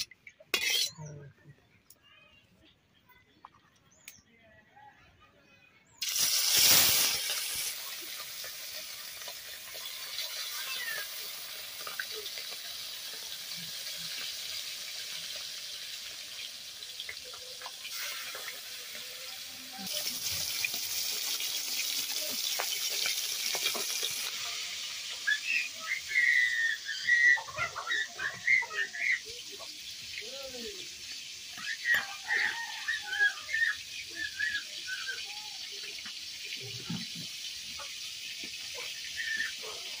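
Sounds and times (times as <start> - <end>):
fish sizzling in hot oil: 0.0 - 0.9, 6.0 - 40.0.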